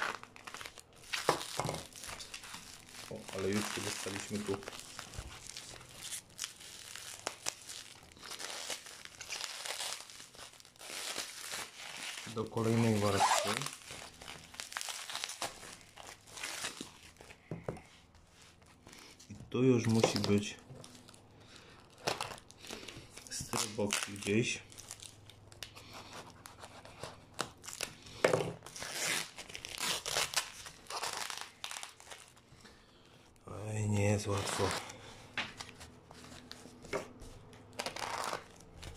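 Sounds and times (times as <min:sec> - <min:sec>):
tape and plastic tearing: 0:00.0 - 0:17.4, 0:19.8 - 0:21.0, 0:21.9 - 0:32.4, 0:34.3 - 0:38.9.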